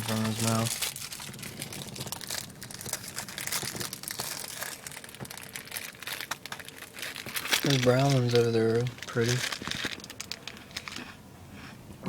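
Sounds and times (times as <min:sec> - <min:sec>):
plastic snack bag crinkling: 0:00.0 - 0:11.2.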